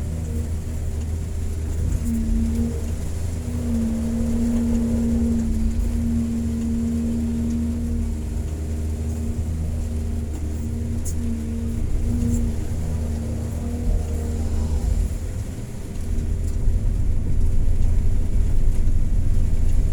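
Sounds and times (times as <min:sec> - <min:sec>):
diesel engine rumbling: 0:00.0 - 0:19.9
machine hum: 0:00.0 - 0:19.9.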